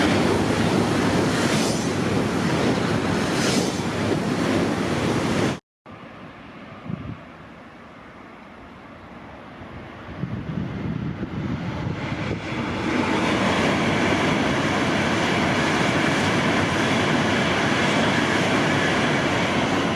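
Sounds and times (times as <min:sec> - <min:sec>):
train passing at speed: 0:00.0 - 0:19.9.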